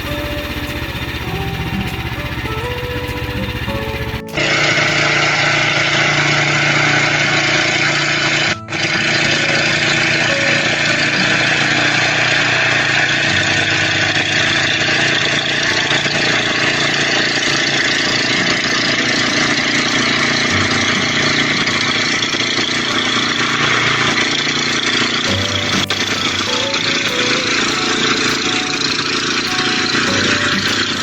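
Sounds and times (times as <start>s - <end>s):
small gasoline engine running: 0.0s - 31.0s.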